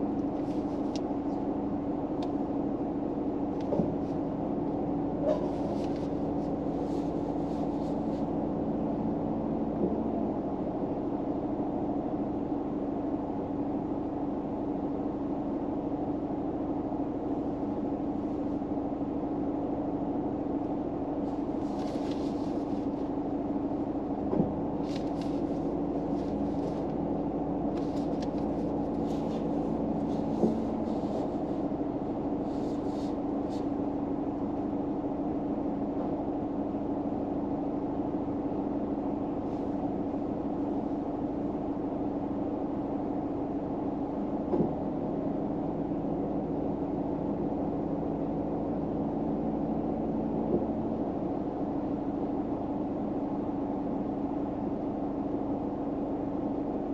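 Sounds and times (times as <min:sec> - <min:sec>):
car interior hum with tone: 0:00.0 - 0:56.9.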